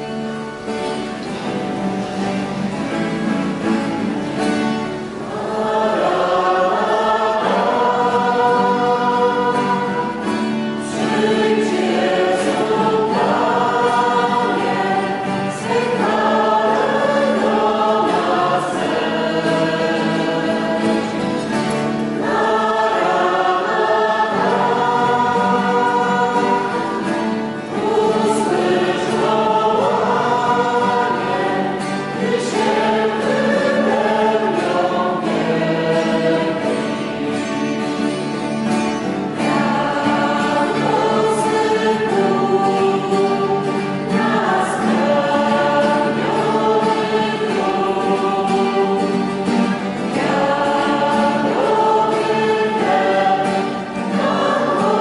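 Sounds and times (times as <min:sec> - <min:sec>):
acoustic guitar: 0:00.0 - 0:55.0
choir singing a hymn: 0:00.0 - 0:55.0.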